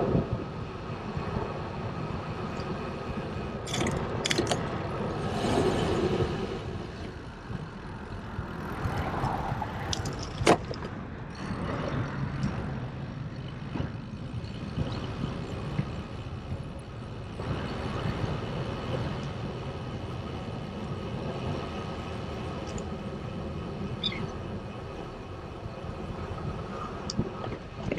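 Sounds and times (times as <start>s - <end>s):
traffic noise: 0.0s - 27.9s
tyre and road noise: 0.0s - 27.9s
wind on microphone: 0.0s - 27.9s.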